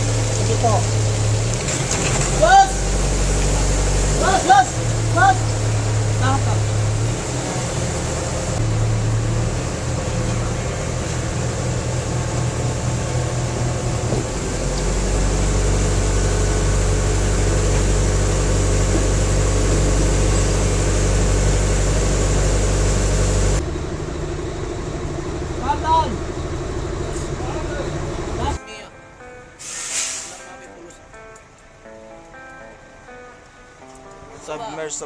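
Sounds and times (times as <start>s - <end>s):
heavy engine running under load: 0.0s - 28.6s.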